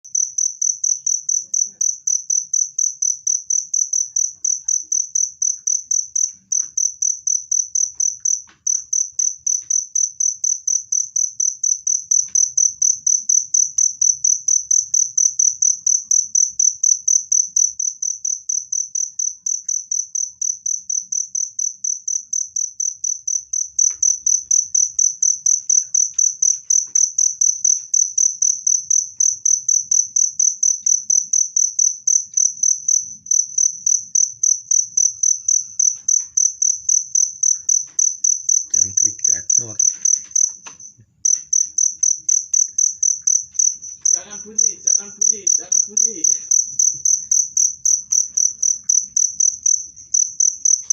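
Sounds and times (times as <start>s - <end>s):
cricket chirping: 0.1s - 50.9s.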